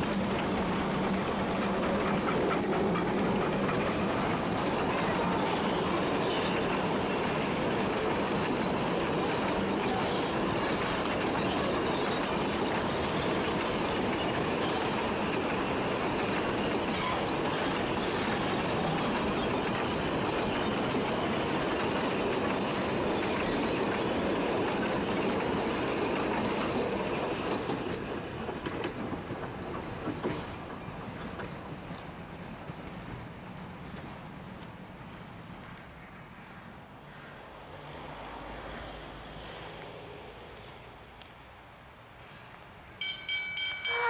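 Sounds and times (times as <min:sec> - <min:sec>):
train wheels clattering on rails: 0:00.0 - 0:40.0.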